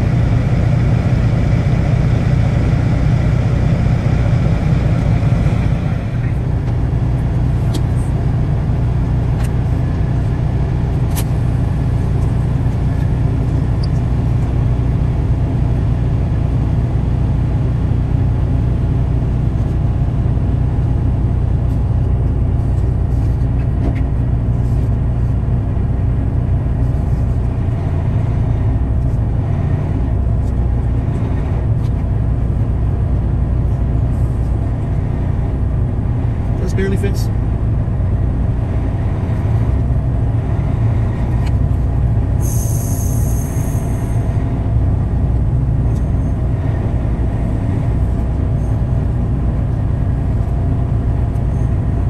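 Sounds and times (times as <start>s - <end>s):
diesel truck engine idling: 0.0s - 52.0s.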